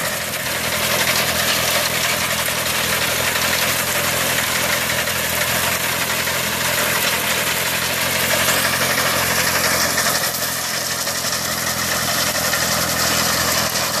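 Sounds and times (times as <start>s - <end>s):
diesel harvester engine running: 0.0s - 14.0s.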